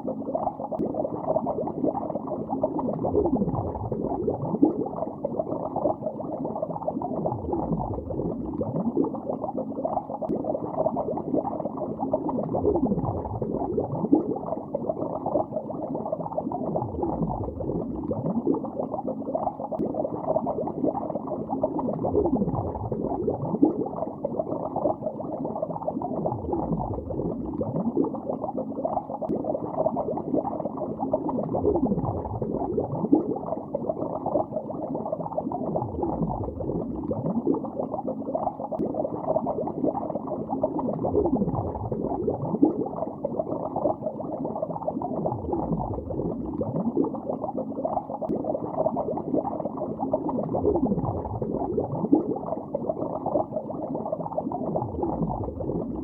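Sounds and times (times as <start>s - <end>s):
muffled underwater bubbling: 0.0s - 56.0s.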